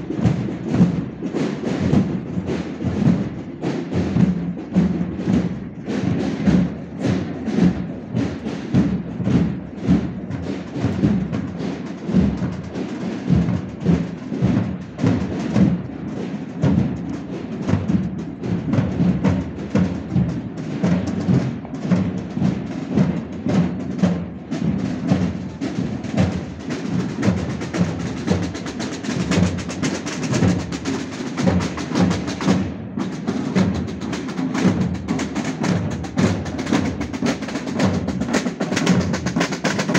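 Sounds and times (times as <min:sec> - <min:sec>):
band playing a march: 0:00.0 - 0:39.9
drums beating steady rhythm: 0:00.0 - 0:39.9.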